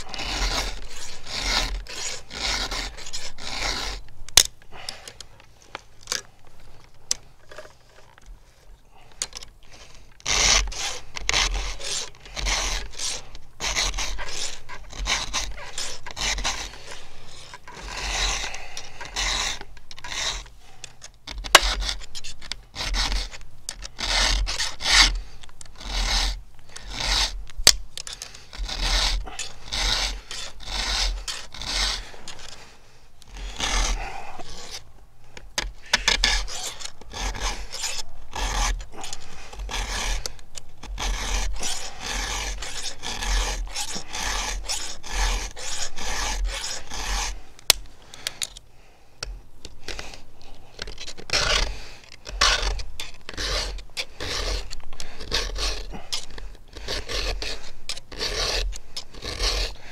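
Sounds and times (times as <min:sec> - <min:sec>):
file rasping on chainsaw chain: 0:00.0 - 0:04.0, 0:09.7 - 0:27.4, 0:28.0 - 0:32.7, 0:33.3 - 0:34.9, 0:35.6 - 0:47.4, 0:49.8 - 0:59.9.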